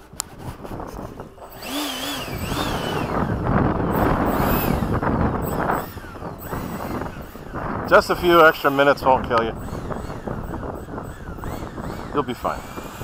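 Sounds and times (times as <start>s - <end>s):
high fan whine: 0.0s - 13.0s.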